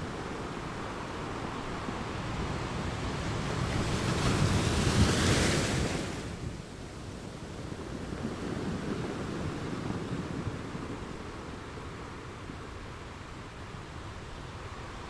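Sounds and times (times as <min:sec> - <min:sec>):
ocean surf: 0:00.0 - 0:15.0
wind on microphone: 0:00.0 - 0:15.0.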